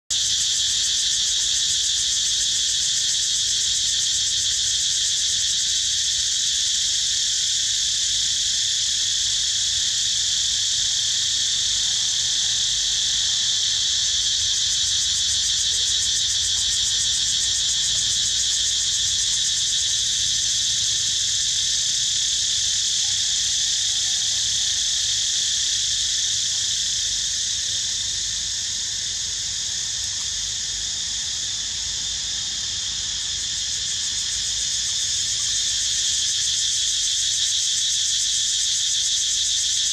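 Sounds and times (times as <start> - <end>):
insects droning: 0.1 - 39.9.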